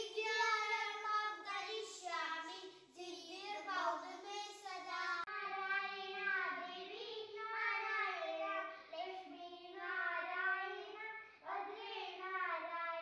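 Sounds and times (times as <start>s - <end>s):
boys singing a prayer: 0.0s - 13.0s.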